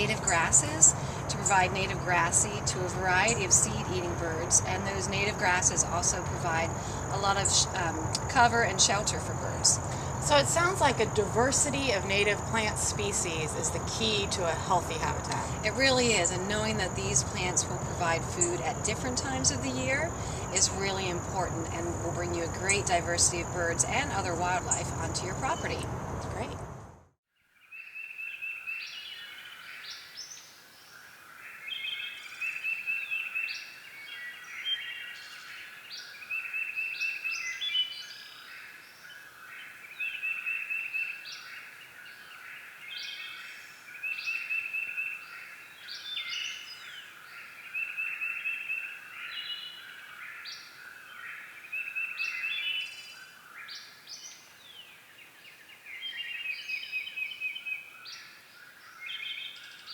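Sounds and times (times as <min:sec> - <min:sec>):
birds chirping: 0:00.0 - 0:26.6, 0:27.8 - 0:59.9.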